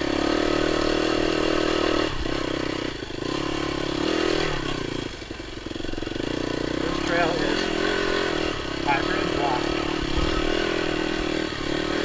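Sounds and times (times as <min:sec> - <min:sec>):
dirt bike engine under throttle: 0:00.0 - 0:12.0.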